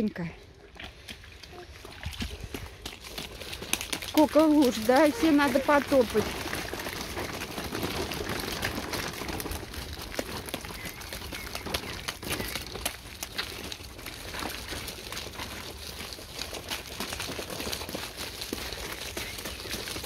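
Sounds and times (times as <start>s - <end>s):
boots splashing in puddles: 0.7s - 20.0s
footsteps crunching on wet gravel: 0.7s - 20.0s.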